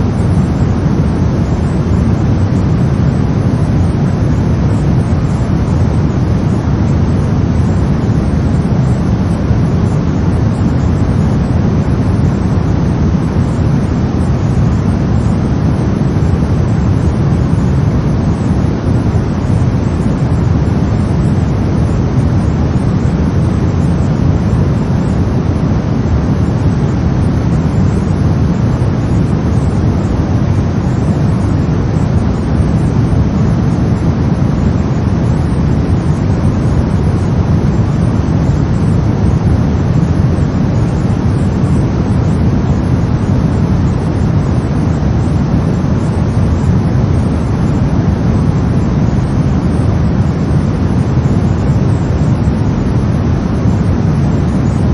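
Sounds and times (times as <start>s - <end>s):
brown noise rumbling hiss: 0.0s - 54.9s.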